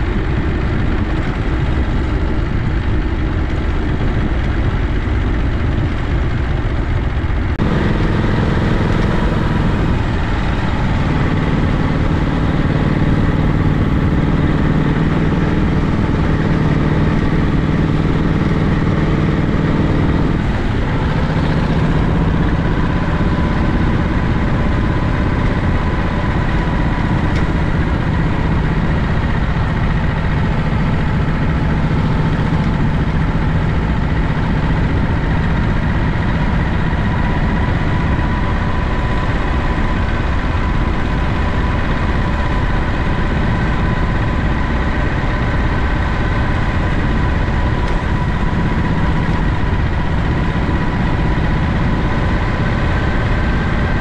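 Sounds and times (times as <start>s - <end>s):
v-twin motorcycle engine running: 0.0s - 54.0s.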